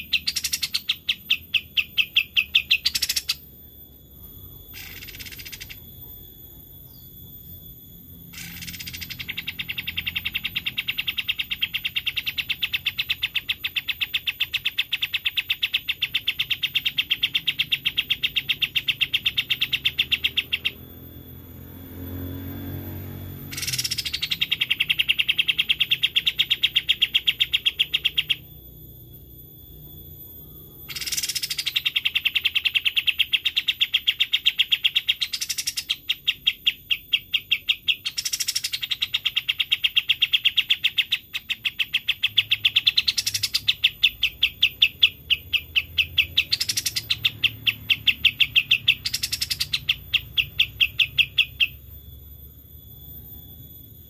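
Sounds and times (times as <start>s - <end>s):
bird rattling trill: 0.0s - 3.6s, 4.5s - 6.0s, 6.7s - 21.5s, 22.7s - 28.5s, 30.8s - 51.9s.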